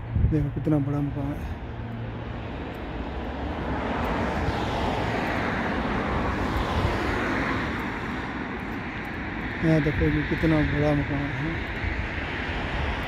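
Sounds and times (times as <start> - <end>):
passing vehicle rushing: 1.3 - 13.0.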